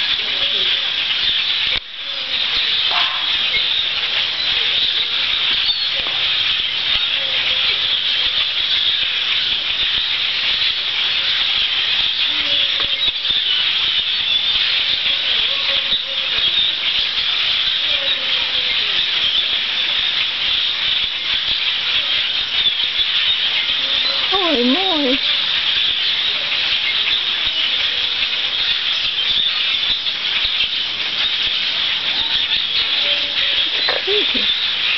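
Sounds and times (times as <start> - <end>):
flock of birds calling: 0.0 - 34.9.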